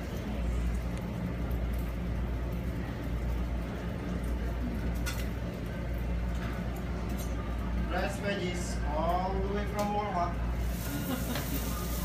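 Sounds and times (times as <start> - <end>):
low mechanical hum: 0.0 - 12.0
noisy background: 0.0 - 12.0.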